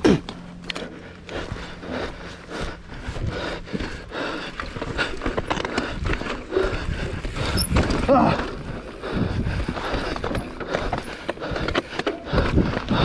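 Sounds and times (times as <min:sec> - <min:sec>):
bike knocking and rattling: 0:00.0 - 0:13.0.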